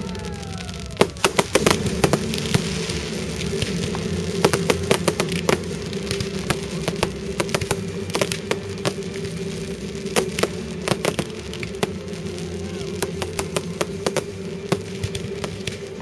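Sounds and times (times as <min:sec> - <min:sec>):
fireworks bangs and crackle: 0:00.0 - 0:16.0.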